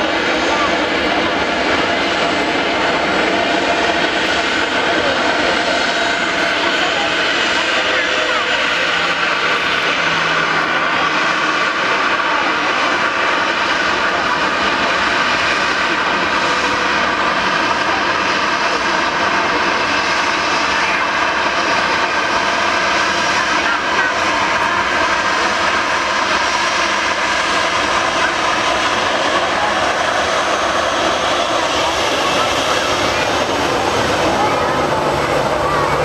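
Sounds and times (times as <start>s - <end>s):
airliner engines running: 0.0s - 36.0s.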